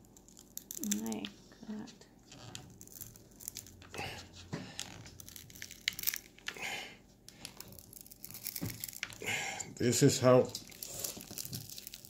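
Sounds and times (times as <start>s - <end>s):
adhesive crinkling and tearing: 0.0s - 1.3s, 2.2s - 6.6s, 7.3s - 12.0s.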